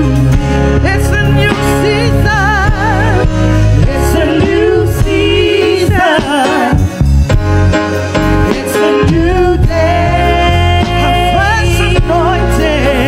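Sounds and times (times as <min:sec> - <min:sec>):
women singing gospel: 0:00.0 - 0:07.1, 0:08.5 - 0:13.0
keyboard accompaniment: 0:00.0 - 0:13.0
steady bass: 0:00.0 - 0:13.0.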